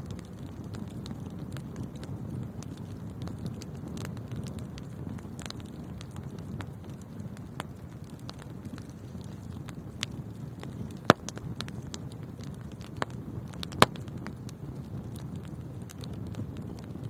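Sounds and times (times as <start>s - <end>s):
fire crackling: 0.0s - 17.0s
fire flames rushing: 0.0s - 17.0s
fire popping: 0.0s - 17.0s.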